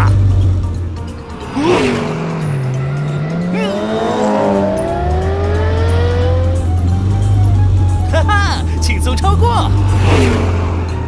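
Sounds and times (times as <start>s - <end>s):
background music: 0.0s - 11.0s
cartoon race car engines revving: 1.2s - 7.6s, 8.2s - 11.0s.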